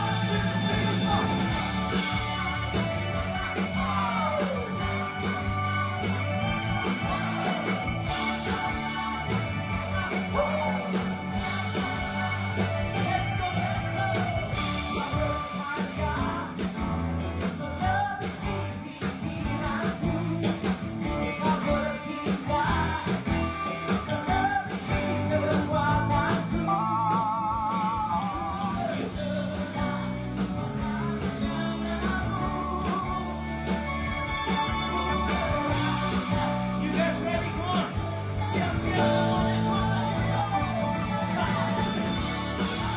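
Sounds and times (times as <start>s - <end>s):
person singing: 0.0s - 16.7s, 23.9s - 42.9s
worship band playing rock: 0.0s - 42.9s.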